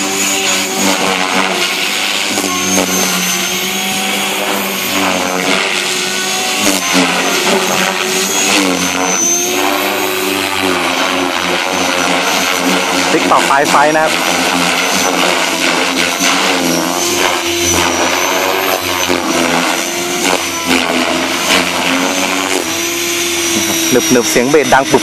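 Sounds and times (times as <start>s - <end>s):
rc helicopter rotor whine: 0.0s - 25.0s.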